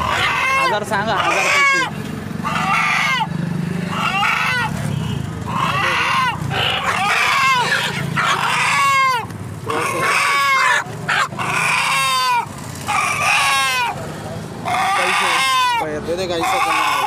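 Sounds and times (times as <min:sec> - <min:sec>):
chicken distress squawks: 0:00.0 - 0:17.0.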